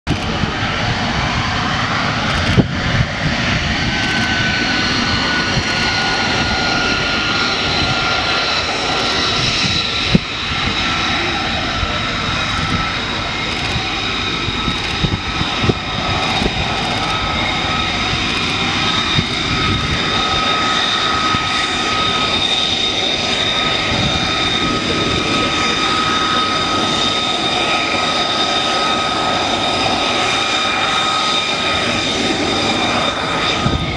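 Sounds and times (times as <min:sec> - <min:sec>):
jet engine running with high whine: 0:00.1 - 0:33.9.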